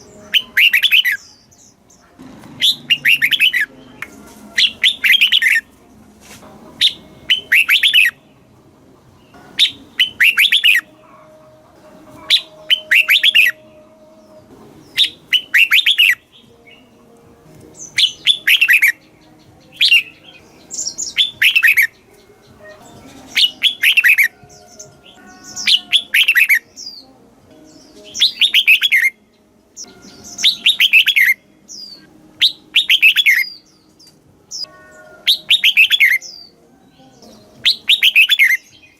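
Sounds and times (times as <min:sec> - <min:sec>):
bird singing: 0:00.0 - 0:05.7, 0:06.8 - 0:38.9.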